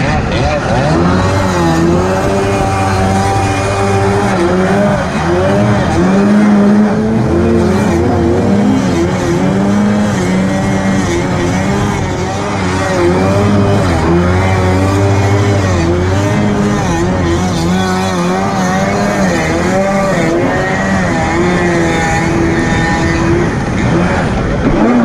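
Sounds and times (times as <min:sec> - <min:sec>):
jet ski engine revving: 0:00.0 - 0:25.0.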